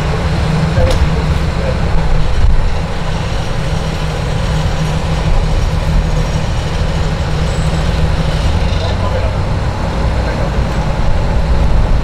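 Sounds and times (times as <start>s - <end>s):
diesel railcar engine drone: 0.0s - 12.0s
rail noise: 0.0s - 12.0s.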